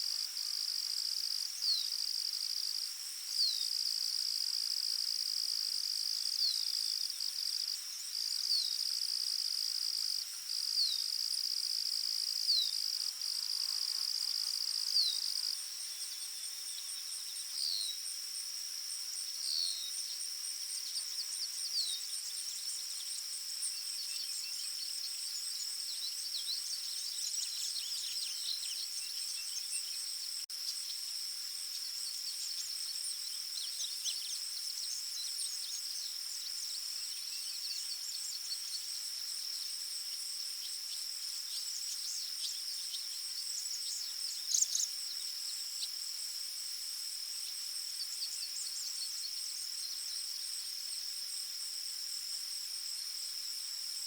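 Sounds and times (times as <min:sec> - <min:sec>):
high-pitched insect drone: 0:09.9 - 0:54.0.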